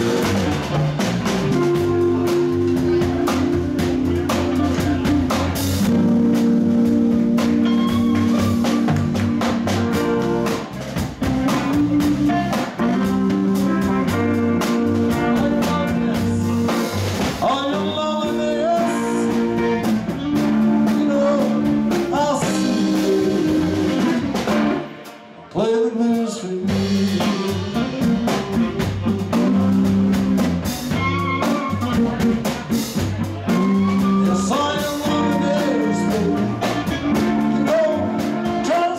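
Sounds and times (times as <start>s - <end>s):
electric guitar: 0.0s - 25.6s, 26.4s - 38.9s
drum kit: 0.0s - 38.9s
live band playing: 0.0s - 38.9s.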